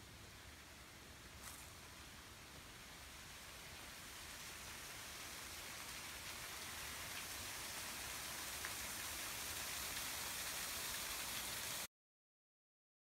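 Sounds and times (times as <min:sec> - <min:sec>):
spring water running and splashing: 0:00.2 - 0:11.9.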